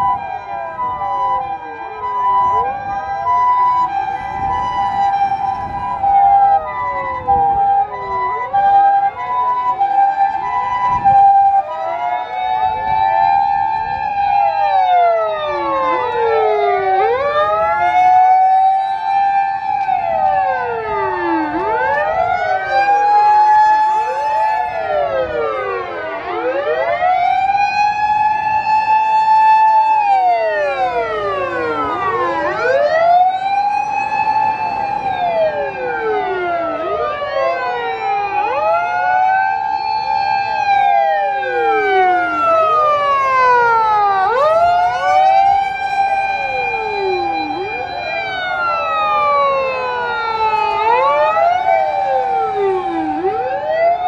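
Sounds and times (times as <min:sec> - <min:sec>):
emergency vehicle sirens wailing: 0:00.0 - 0:54.0.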